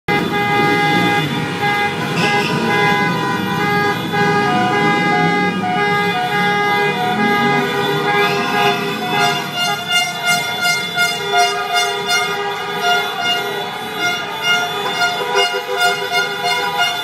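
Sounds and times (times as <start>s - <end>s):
many car horns honking: 0.1s - 17.0s.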